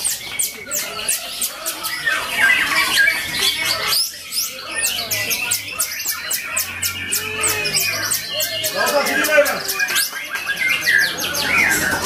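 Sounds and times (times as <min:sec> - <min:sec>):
songbird whistling and chirping: 0:00.0 - 0:12.0.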